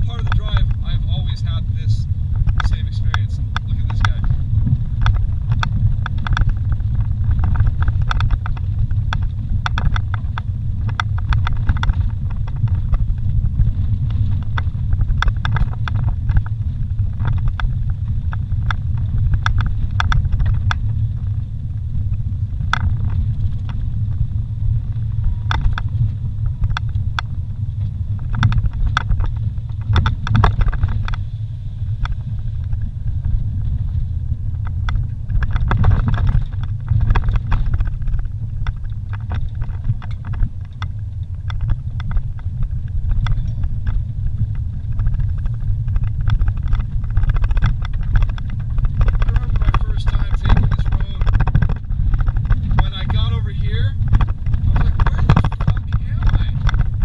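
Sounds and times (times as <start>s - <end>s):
vehicle engine and tyre rumble: 0.0s - 57.0s
rattles and knocks: 2.3s - 57.0s.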